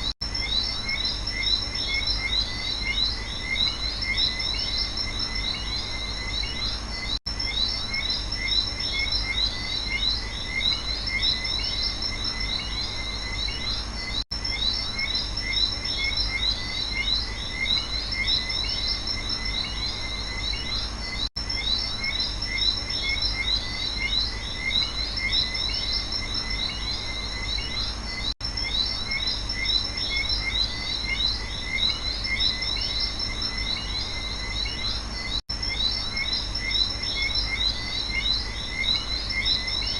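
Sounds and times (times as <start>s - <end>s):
frogs chirping: 0.0s - 39.9s
insects chirping: 0.0s - 39.9s.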